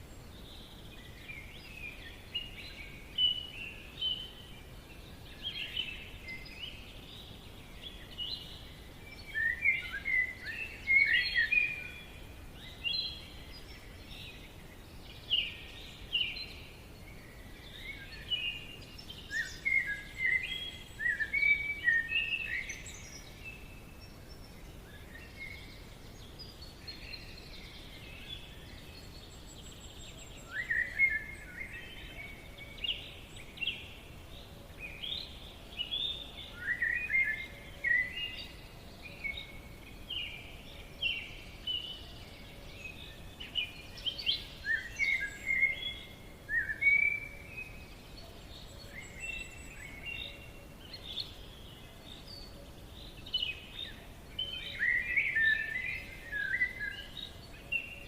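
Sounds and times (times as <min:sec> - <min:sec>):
birds chirping: 0:00.0 - 0:58.0
faint background hiss: 0:00.0 - 0:58.0.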